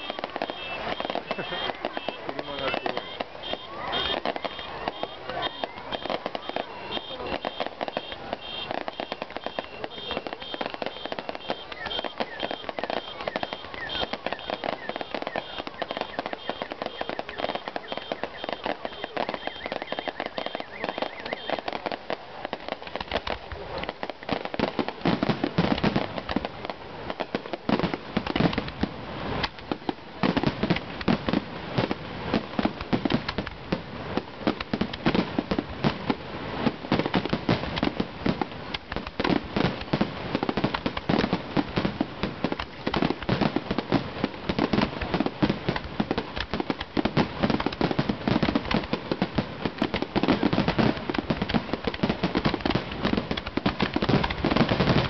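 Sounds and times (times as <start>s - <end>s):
firework bangs and crackling: 0.0s - 55.0s.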